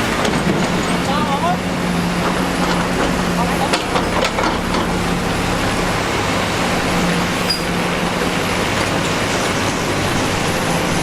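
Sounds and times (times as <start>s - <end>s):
diesel machinery engine running: 0.0s - 11.0s.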